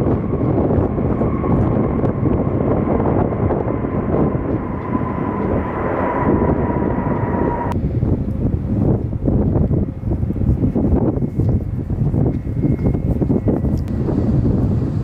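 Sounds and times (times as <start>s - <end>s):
jet airliner engines passing: 0.0s - 15.0s.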